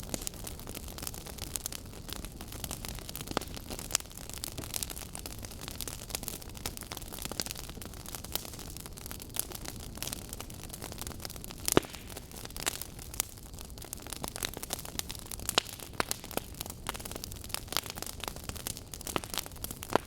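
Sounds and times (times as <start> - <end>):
burning logs crackling: 0.0 - 20.0.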